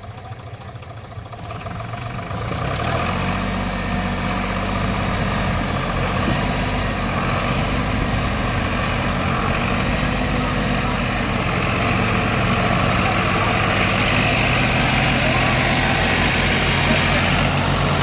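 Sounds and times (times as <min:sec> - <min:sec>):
tractor engines under load: 0:00.0 - 0:18.0.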